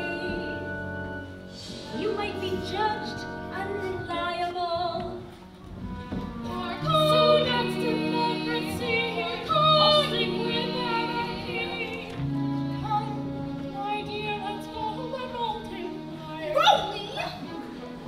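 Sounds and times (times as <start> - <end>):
women singing opera: 0.0 - 5.3, 6.4 - 17.6
instrumental accompaniment: 0.0 - 18.0.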